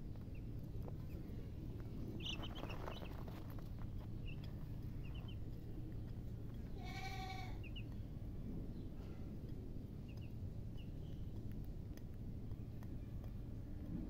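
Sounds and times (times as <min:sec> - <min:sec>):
baby chicks peeping: 0:00.0 - 0:14.0
low background rumble: 0:00.0 - 0:14.0.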